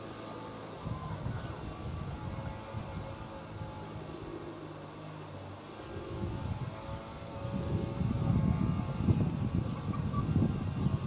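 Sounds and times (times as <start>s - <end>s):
wind gusting across microphone: 0.8s - 4.4s, 5.8s - 11.0s.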